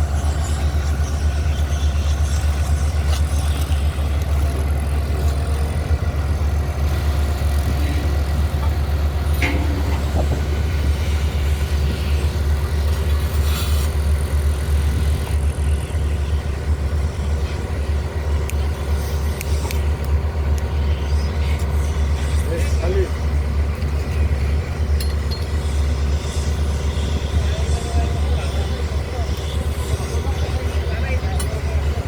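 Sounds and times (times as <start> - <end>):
low engine drone: 0.0 - 32.0.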